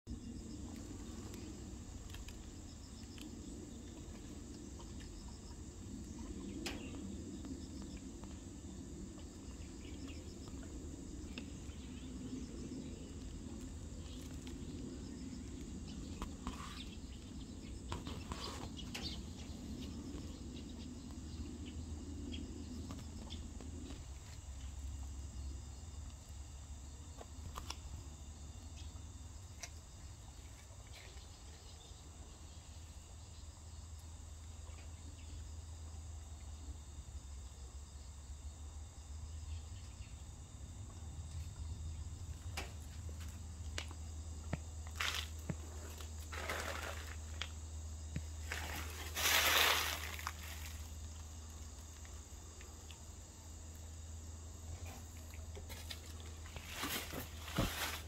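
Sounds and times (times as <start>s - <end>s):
faint insect chirping: 0.1s - 58.0s
steady low hum: 0.1s - 58.0s.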